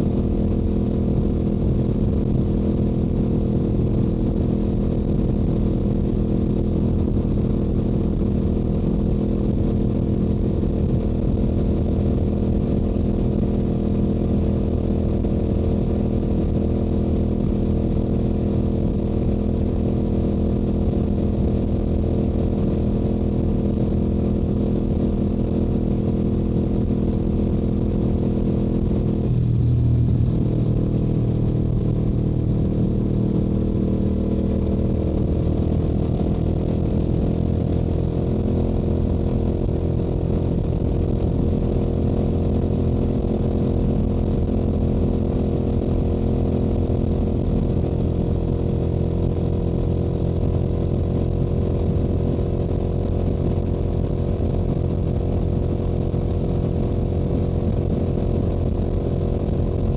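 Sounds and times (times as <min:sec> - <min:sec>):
motorcycle engine cruising: 0:00.0 - 0:55.1.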